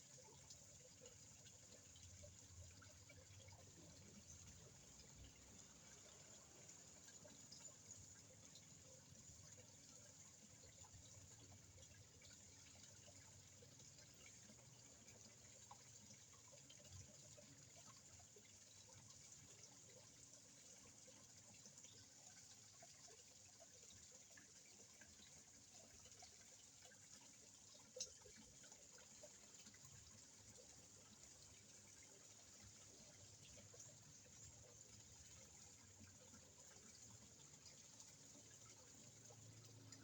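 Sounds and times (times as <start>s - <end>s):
pond water trickling: 0.0s - 40.0s.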